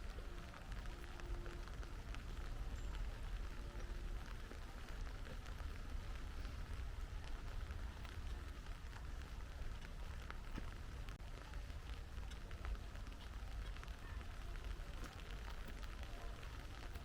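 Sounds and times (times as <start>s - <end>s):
low steady rumble: 0.0s - 17.0s
rain drops ticking: 0.0s - 17.0s.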